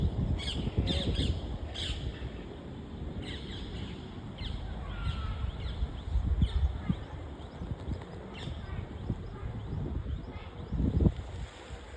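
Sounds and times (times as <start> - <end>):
birds chirping: 0.4 - 11.2.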